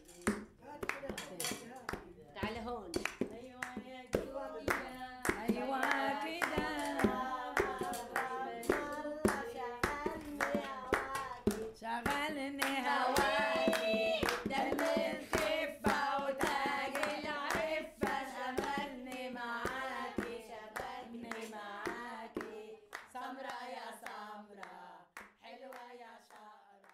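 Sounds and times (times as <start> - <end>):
person singing folk melody: 0.0 - 22.8
rhythmic hand clapping: 0.0 - 26.9.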